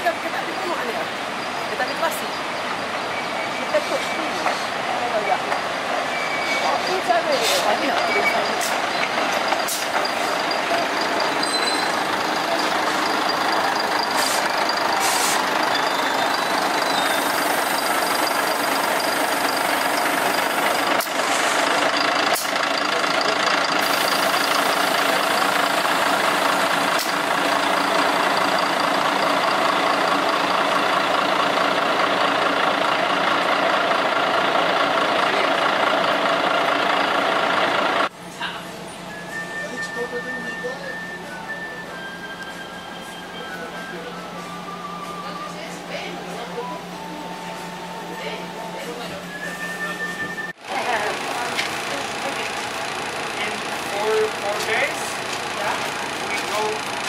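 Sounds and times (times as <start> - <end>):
diesel railcar engine idling: 0.0 - 57.0.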